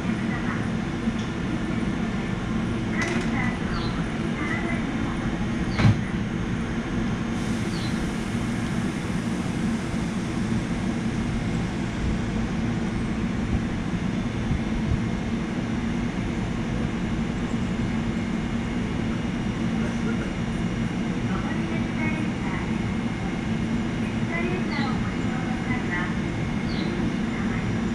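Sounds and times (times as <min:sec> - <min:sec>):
train equipment humming: 0:00.0 - 0:27.9.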